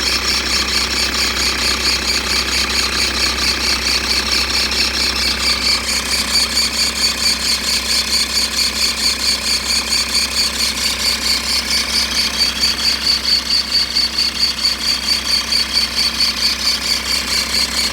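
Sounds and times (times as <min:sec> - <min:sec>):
diesel engine idling: 0:00.0 - 0:17.9.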